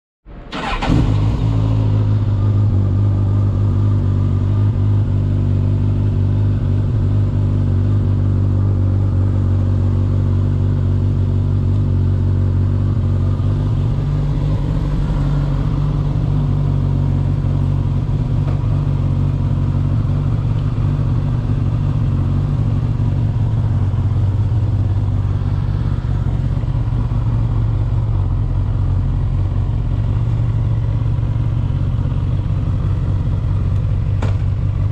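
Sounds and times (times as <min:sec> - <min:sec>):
motorcycle engine idling: 0:00.6 - 0:00.8, 0:01.4 - 0:34.9.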